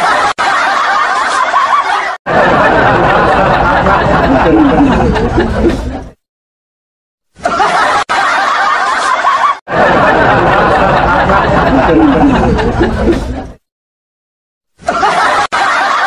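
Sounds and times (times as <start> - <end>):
people laughing: 0.0 - 6.2, 7.4 - 13.7, 14.8 - 16.0.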